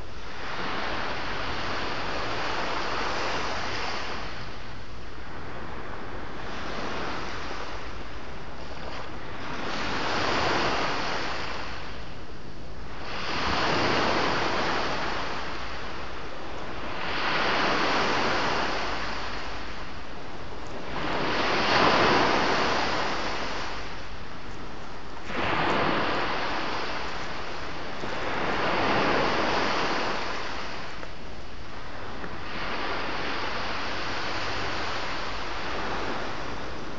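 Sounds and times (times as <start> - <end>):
waves breaking and washing ashore: 0.0 - 36.9.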